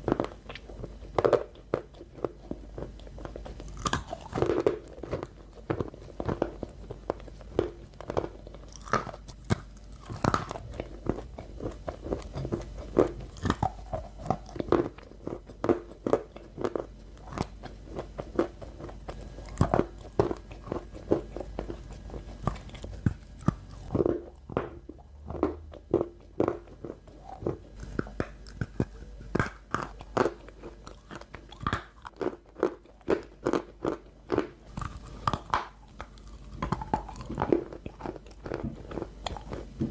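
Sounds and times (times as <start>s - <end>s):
crunchy snack being chewed: 0.0s - 39.9s.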